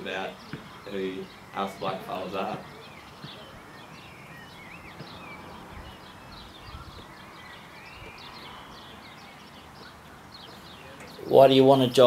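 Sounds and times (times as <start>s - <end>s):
birds chirping and whistling: 0.0s - 12.0s.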